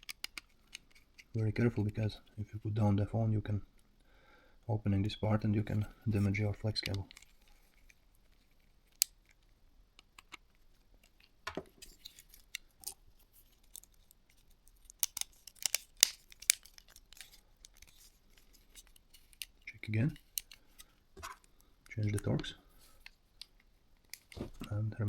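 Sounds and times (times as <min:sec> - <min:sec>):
plastic phone parts clicking: 0:00.0 - 0:02.1, 0:06.6 - 0:24.8.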